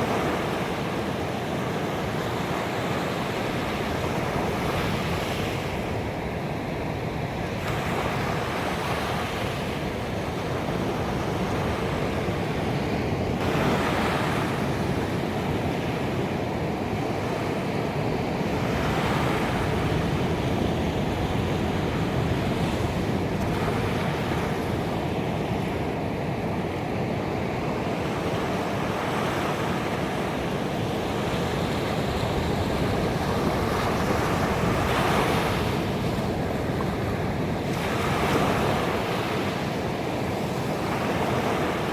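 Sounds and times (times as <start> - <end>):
ocean waves breaking on beach: 0.0 - 41.9.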